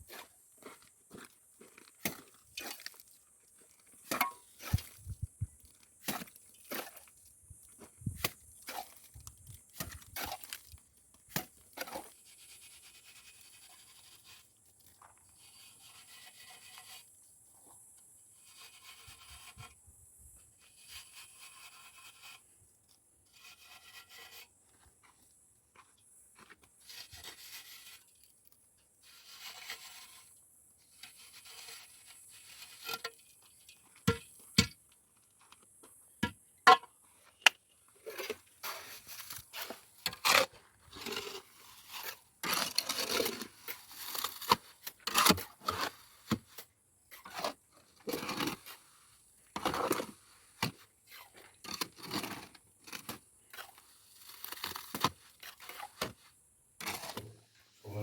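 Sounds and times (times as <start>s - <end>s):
hand tool scraping: 0.0s - 22.6s, 23.2s - 25.2s, 25.8s - 34.8s, 36.2s - 58.0s.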